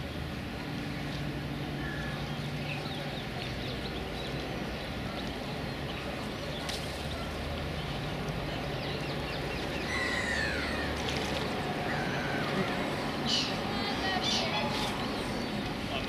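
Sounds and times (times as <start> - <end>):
small birds chirping: 1.8 - 16.0.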